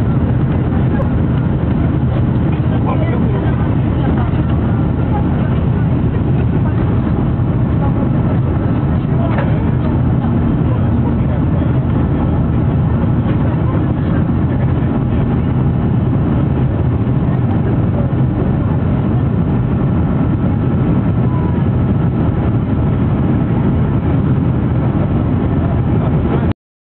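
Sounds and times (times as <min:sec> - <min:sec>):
jet engine rumble in cabin: 0:00.0 - 0:26.6.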